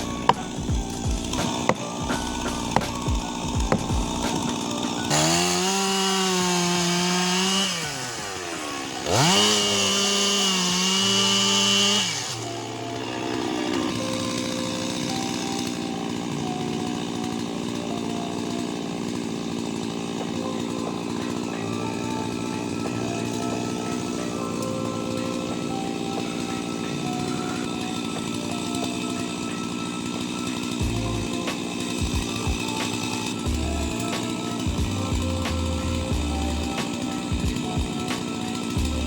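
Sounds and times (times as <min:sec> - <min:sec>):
chainsaw revving: 0:00.0 - 0:39.0.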